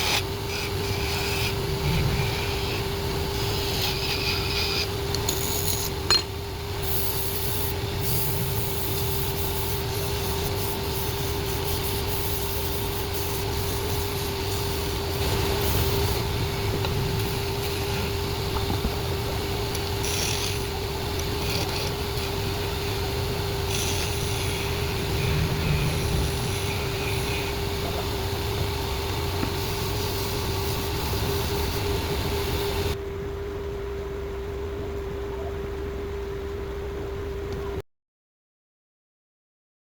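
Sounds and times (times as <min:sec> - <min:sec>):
tool scraping spinning wood: 0:00.0 - 0:06.2, 0:06.8 - 0:33.0.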